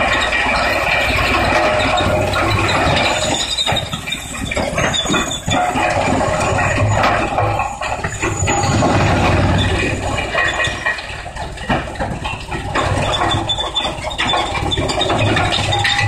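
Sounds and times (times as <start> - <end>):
wood chipper running: 0.0 - 16.0.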